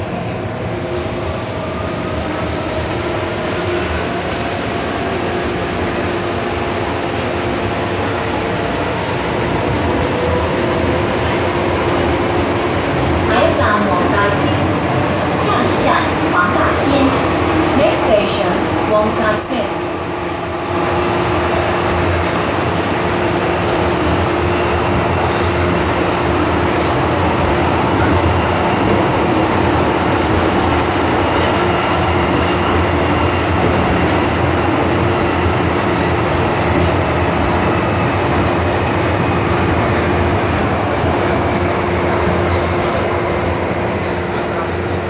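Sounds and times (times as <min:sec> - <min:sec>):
train high whine: 0:00.0 - 0:45.0
train wheels rumbling on rail: 0:00.0 - 0:45.0.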